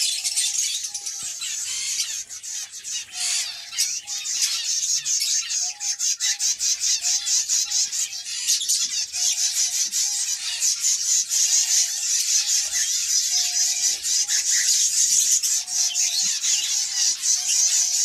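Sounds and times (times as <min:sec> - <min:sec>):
finches chirping and trilling: 0:00.0 - 0:18.0.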